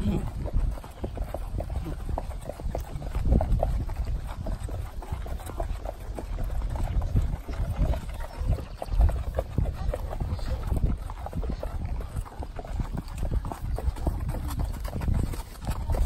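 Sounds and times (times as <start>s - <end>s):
horse hooves clopping on dirt: 0.0s - 16.0s.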